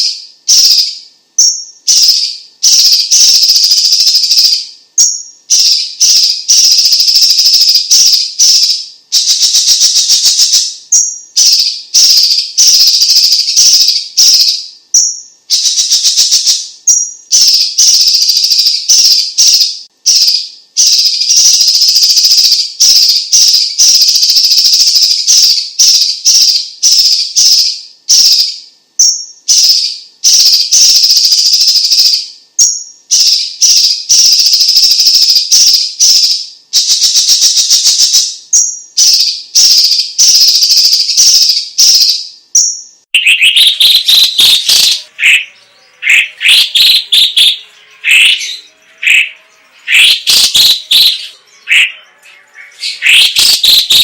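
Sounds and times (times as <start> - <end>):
bird singing fast rattling song: 0.0 - 54.0.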